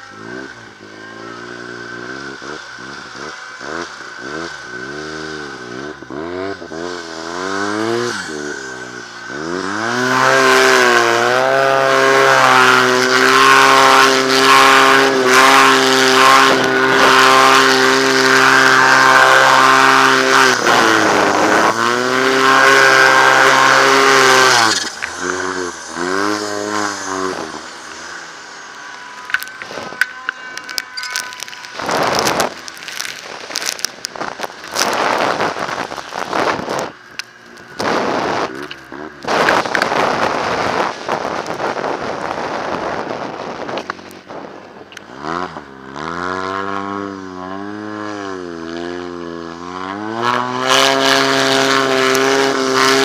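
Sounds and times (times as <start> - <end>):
snowmobile engine revving: 0.0 - 53.0.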